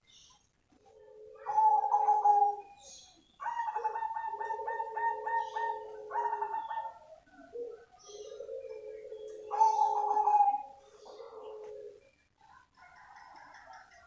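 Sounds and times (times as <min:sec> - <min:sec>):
dove cooing: 0:00.7 - 0:14.0.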